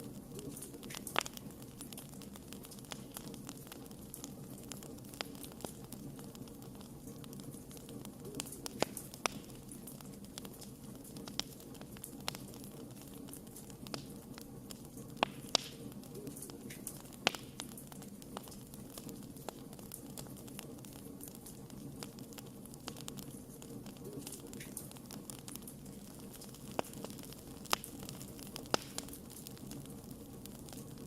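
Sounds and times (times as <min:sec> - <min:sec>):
wood fire burning: 0:00.0 - 0:31.0.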